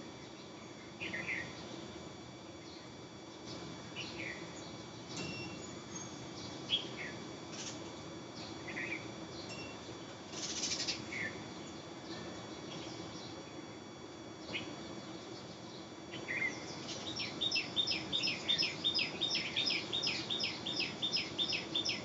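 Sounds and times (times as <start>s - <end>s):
high insect drone: 0.0s - 9.5s, 10.2s - 22.0s
birds chirping: 2.6s - 9.7s, 10.4s - 13.6s, 14.4s - 22.0s.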